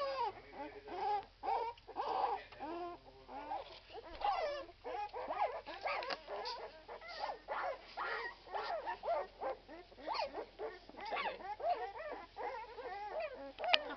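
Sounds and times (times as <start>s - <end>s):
puppies whimpering: 0.0s - 13.9s.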